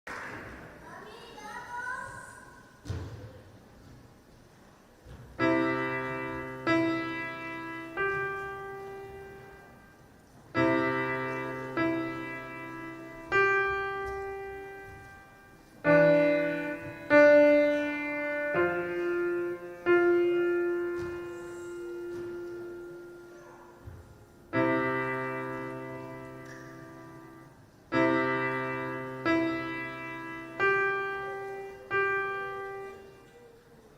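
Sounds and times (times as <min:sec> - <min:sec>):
piano chords played slowly: 0:05.4 - 0:33.5.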